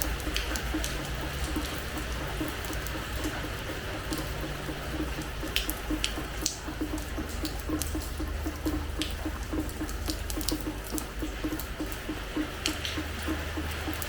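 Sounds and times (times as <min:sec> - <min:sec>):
rain on terrace floor: 0:00.0 - 0:14.0
sharp drip ticks: 0:00.0 - 0:14.0.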